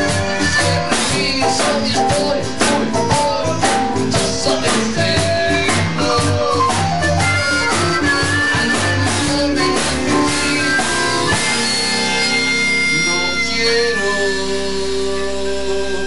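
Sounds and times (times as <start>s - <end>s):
man singing: 0.0s - 16.0s
strummed guitar: 0.0s - 16.0s.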